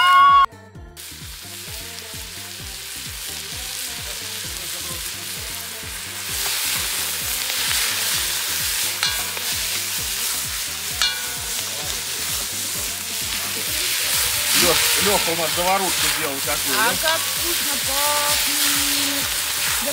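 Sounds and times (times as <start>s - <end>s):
onions sizzling in oil: 1.0s - 19.9s.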